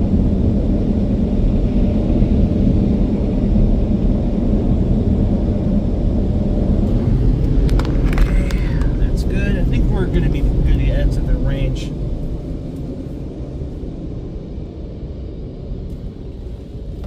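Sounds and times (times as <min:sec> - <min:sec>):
blower dryers rumbling: 0:00.0 - 0:17.0.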